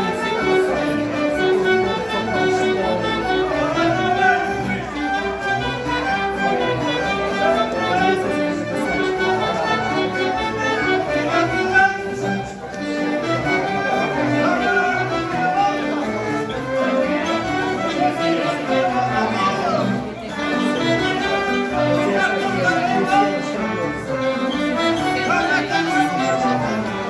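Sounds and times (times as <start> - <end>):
folk band playing dance tune: 0.0 - 27.0.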